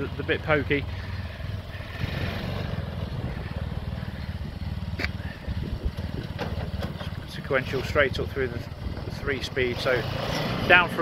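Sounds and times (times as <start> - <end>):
small engine running steadily: 0.0 - 11.0.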